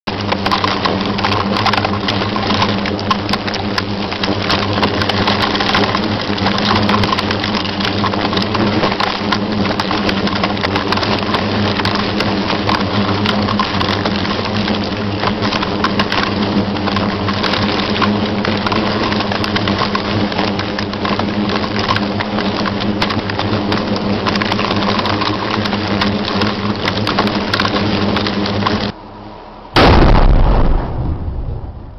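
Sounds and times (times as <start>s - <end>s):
small ticks: 0.1s - 29.0s
wasps buzzing: 0.1s - 29.0s.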